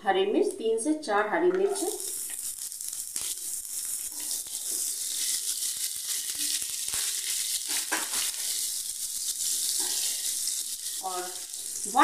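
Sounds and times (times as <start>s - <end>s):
hot oil sizzling and crackling: 1.7s - 12.0s.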